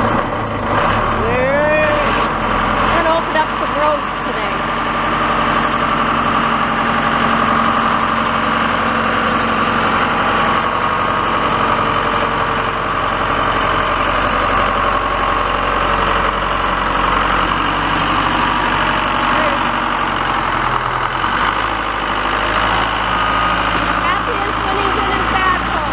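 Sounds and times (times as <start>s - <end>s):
backhoe engine idling: 0.0s - 25.9s.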